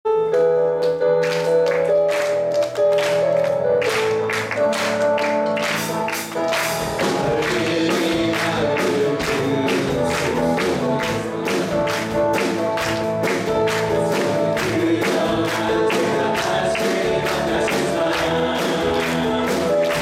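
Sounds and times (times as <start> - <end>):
band playing upbeat worship song: 1.2 - 20.0.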